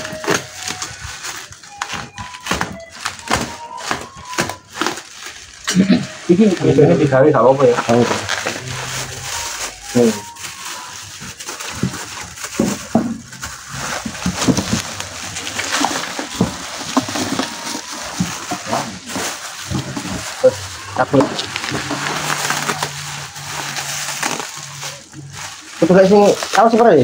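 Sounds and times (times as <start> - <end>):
plastic bag rustling and crinkling: 0.0 - 27.0.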